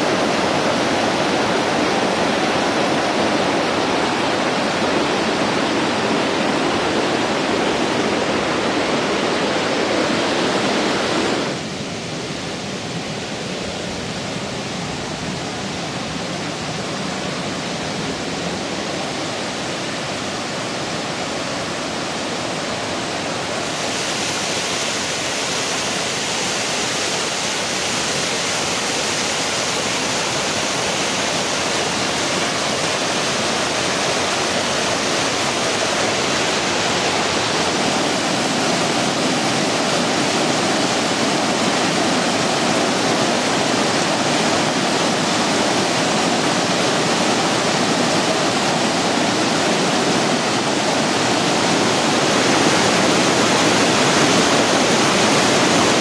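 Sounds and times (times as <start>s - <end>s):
stream rushing over boulders: 0.0s - 56.0s.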